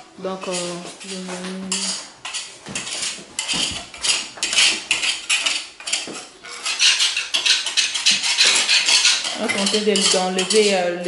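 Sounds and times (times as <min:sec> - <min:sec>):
hammer scraping and knocking metal: 0:00.0 - 0:10.9.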